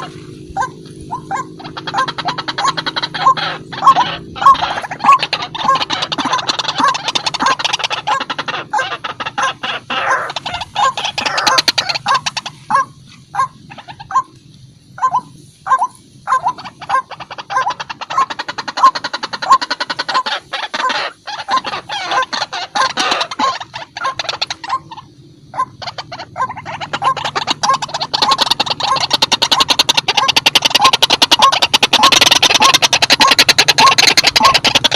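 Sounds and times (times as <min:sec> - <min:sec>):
bird harsh repeated calls: 0:00.0 - 0:34.9.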